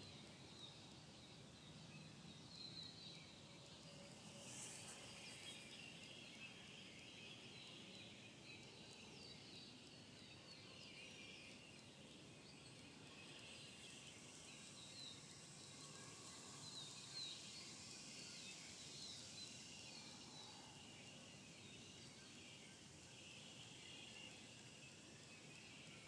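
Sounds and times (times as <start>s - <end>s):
faint high insect drone: 0.0s - 26.0s.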